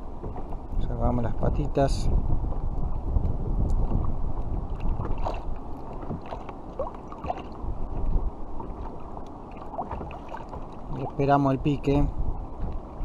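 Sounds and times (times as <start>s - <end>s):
small waves lapping against hull: 0.0s - 13.0s
wind buffeting microphone: 0.0s - 13.0s.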